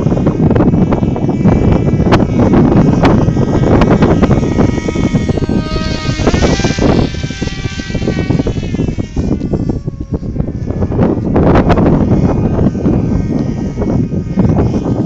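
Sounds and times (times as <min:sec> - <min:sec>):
model plane motor whining: 0:00.0 - 0:15.0
wind rumble on microphone: 0:00.0 - 0:15.0.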